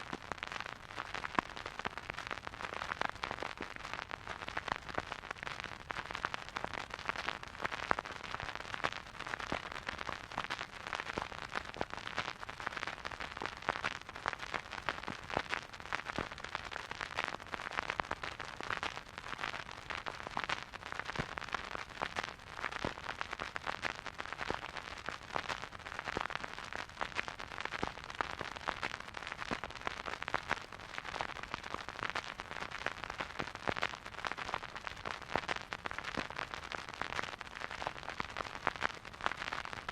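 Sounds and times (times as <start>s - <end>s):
vinyl record surface noise: 0.0s - 39.9s.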